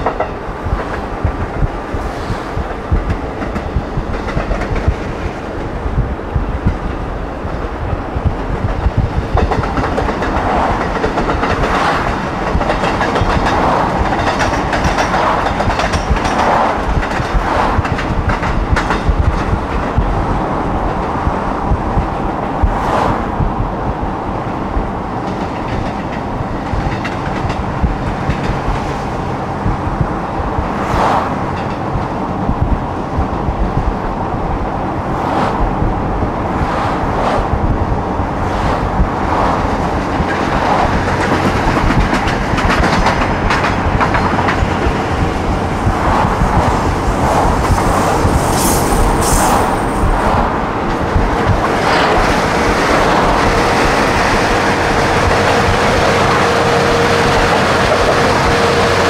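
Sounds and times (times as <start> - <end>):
car driving rumble and wind: 0.0 - 59.0.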